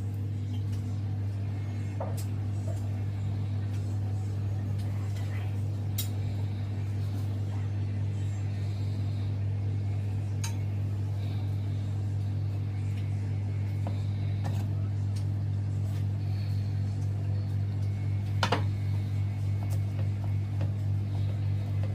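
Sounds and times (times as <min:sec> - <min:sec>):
low electric machine hum: 0:00.0 - 0:21.9.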